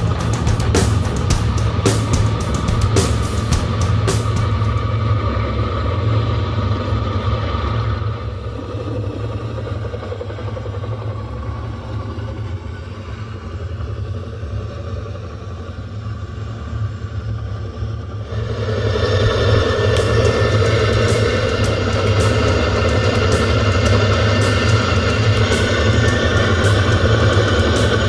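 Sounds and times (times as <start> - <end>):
higher machine hum: 0.0 - 28.0
machine rumbling and humming: 0.0 - 28.0.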